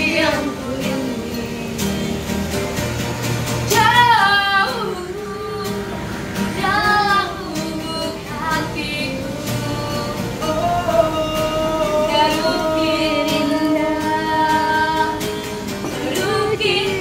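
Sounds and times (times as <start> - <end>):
woman singing with vibrato: 0.0 - 2.2, 3.7 - 17.0
instrumental accompaniment: 0.0 - 17.0.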